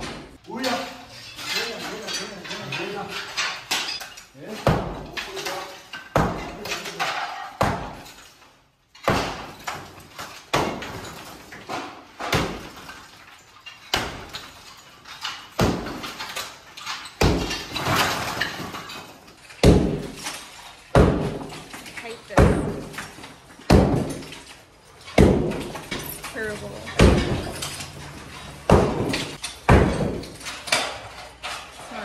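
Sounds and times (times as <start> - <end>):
bricks crashing: 0.0 - 31.8
sledgehammer striking brick wall: 4.5 - 8.3, 8.9 - 31.2.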